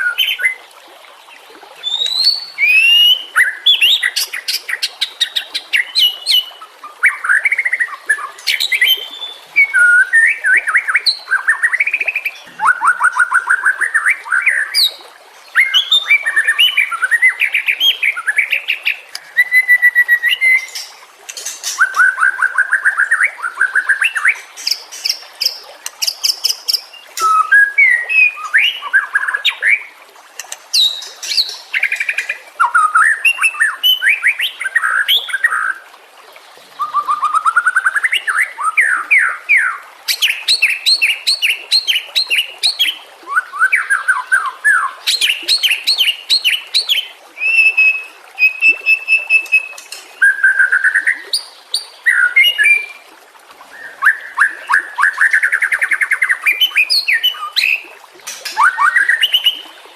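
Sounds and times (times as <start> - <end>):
bird singing varied song: 1.8 - 29.9, 30.7 - 35.8, 36.7 - 53.0, 53.7 - 59.7.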